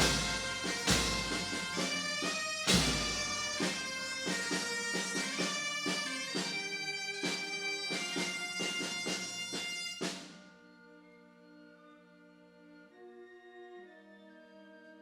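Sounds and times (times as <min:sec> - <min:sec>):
bagpipes playing slow melody: 0:00.0 - 0:14.6.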